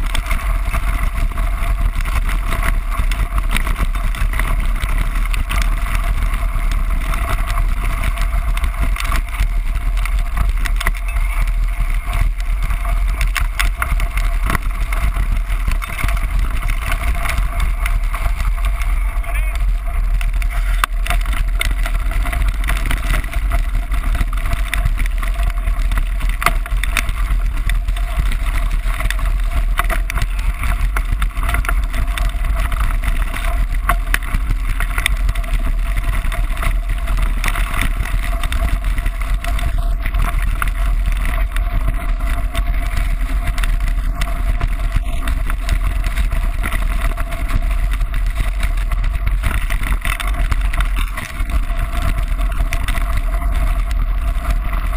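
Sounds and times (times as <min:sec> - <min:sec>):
bike tyres rattling on gravel: 0:00.0 - 0:54.9
wind buffeting microphone: 0:00.0 - 0:54.9.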